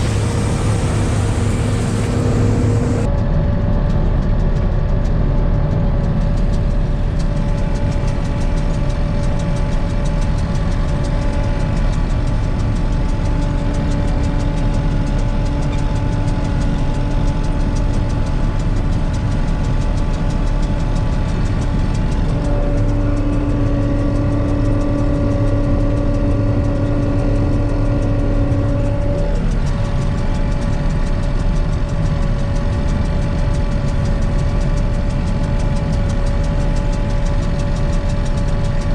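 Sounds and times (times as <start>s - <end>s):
mechanical whines: 0.0s - 3.1s, 7.1s - 37.5s
combine harvester engine drone: 0.0s - 38.9s.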